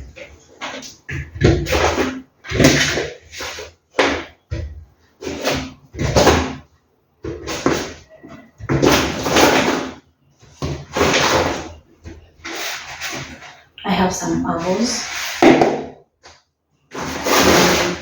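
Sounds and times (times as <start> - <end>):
groceries rustling and knocking: 0.0 - 18.0.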